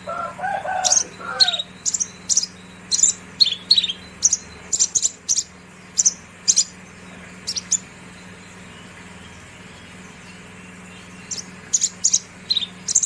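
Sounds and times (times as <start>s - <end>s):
bird chirping high: 0.0s - 13.0s.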